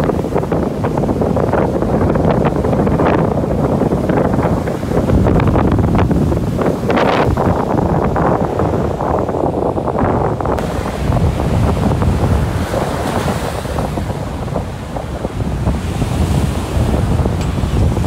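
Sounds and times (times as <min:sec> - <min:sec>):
surf breaking on beach: 0:00.0 - 0:18.0
wind buffeting microphone: 0:00.0 - 0:18.0.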